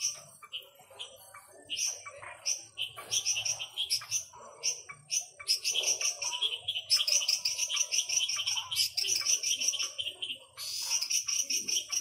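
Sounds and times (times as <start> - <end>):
frogs and insects chirping: 0.0 - 12.0.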